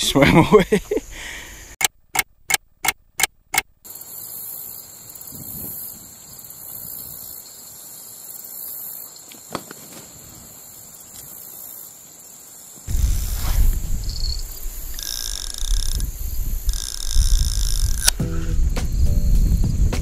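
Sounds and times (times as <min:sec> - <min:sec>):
insects chirring: 0:00.0 - 0:01.8, 0:03.6 - 0:20.0.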